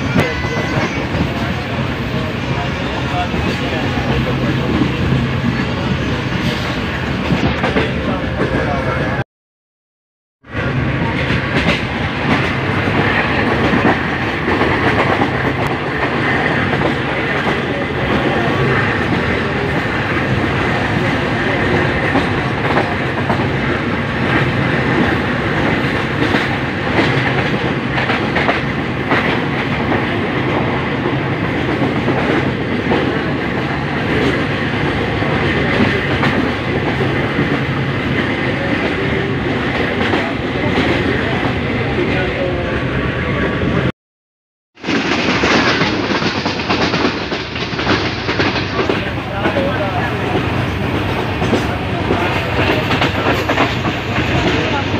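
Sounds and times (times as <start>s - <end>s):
train wheels rumbling on rails: 0.0s - 9.2s, 10.4s - 43.9s, 44.8s - 54.9s.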